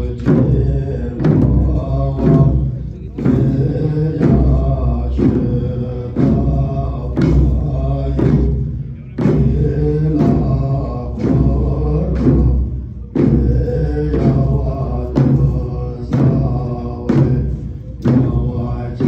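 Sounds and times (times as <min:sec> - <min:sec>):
hand drums struck: 0:00.0 - 0:19.0.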